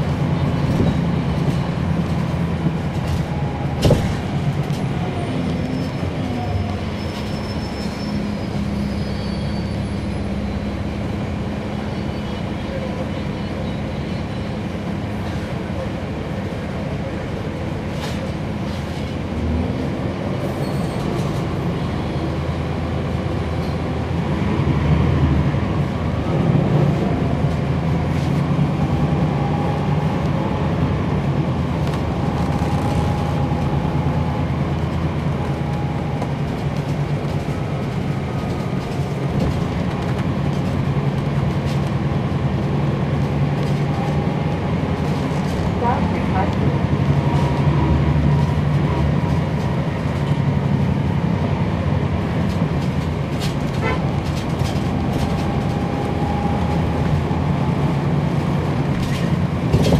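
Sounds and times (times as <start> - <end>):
bus diesel engine drone: 0.0 - 59.9
road rumble: 0.0 - 59.9.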